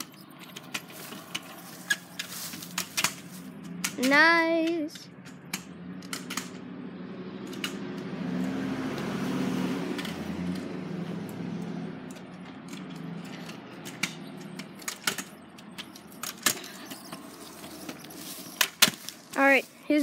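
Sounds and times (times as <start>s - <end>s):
car passing: 0.0s - 4.3s, 5.0s - 20.0s
sharp clicks and rattles: 0.0s - 6.7s, 7.4s - 8.1s, 9.9s - 20.0s.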